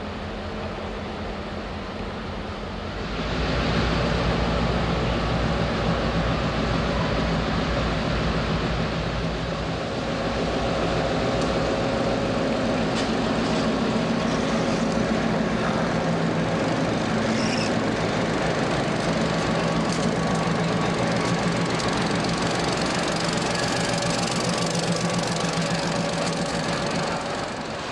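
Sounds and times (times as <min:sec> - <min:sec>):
diesel locomotives droning: 0:00.0 - 0:27.9.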